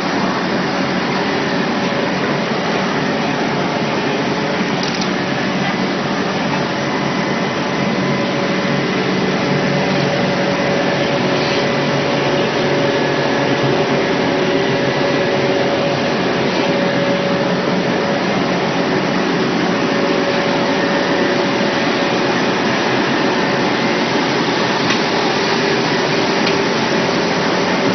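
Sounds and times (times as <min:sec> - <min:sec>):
baling machine humming: 0:00.0 - 0:27.9.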